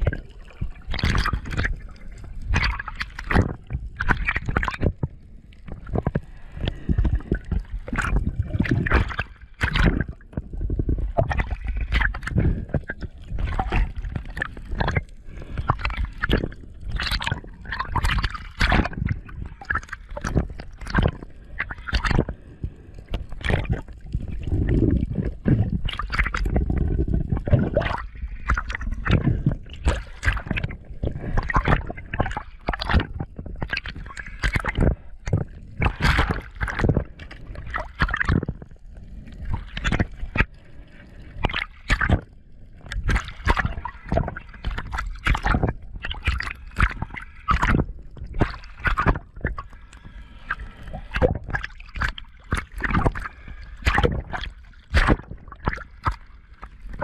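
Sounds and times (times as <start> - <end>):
water sloshing and gurgling: 0.0 - 57.0.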